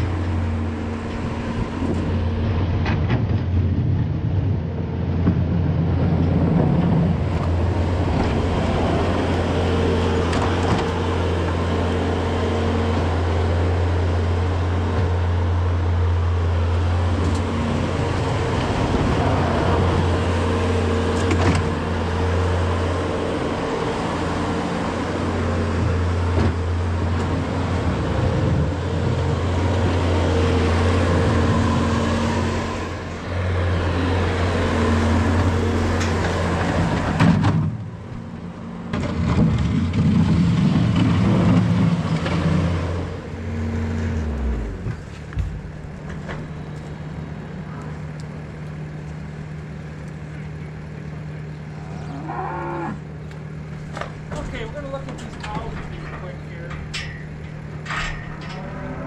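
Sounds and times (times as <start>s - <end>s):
diesel engine running: 0.0s - 59.0s
loader scraping manure: 0.0s - 59.0s.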